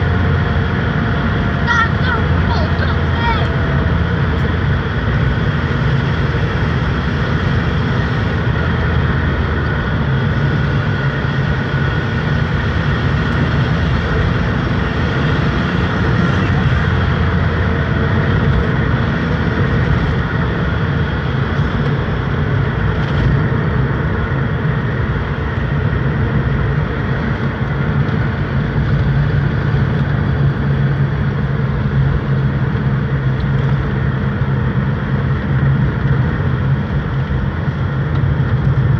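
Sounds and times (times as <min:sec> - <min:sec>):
low engine drone: 0:00.0 - 0:38.9.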